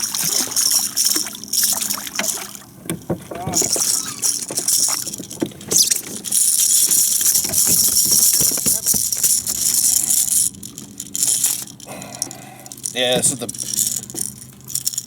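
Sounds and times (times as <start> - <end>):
hissy splashing or rustling: 0.0 - 15.0
rattling on a kayak: 0.0 - 15.0.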